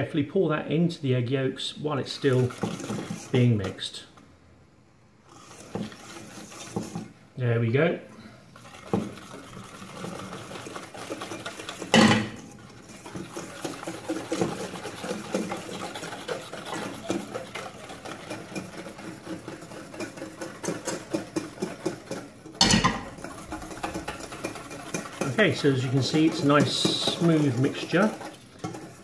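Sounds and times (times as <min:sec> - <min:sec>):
whisk beating in metal bowl: 0:02.0 - 0:03.9, 0:05.3 - 0:07.2, 0:08.6 - 0:29.0.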